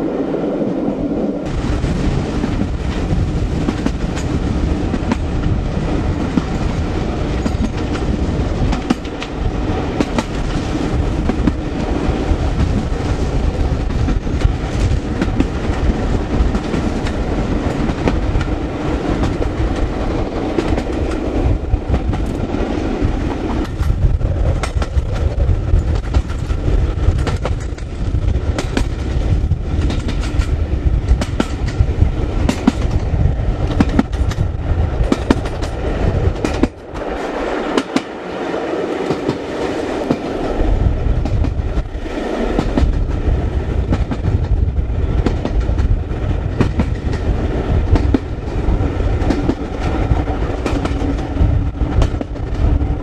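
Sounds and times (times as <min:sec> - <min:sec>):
train low rumble: 0:00.0 - 0:53.0
wind buffeting microphone: 0:00.0 - 0:53.0
wheels clicking over rail joints: 0:01.9 - 0:38.2, 0:41.2 - 0:53.0.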